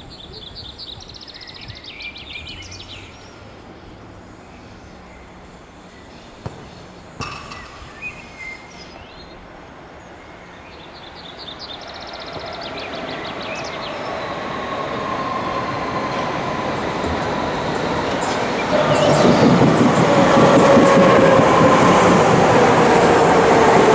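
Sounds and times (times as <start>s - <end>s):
approaching train running noise: 1.8s - 23.9s.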